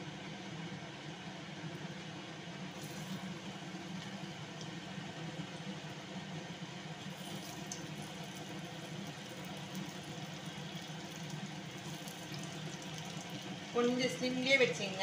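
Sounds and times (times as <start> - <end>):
deep-frying sizzle with crackling: 0.0 - 15.0.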